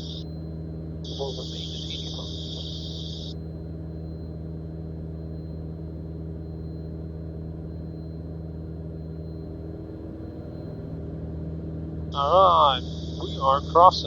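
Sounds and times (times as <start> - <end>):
airplane engine and propeller drone: 0.0 - 10.8, 12.0 - 14.0.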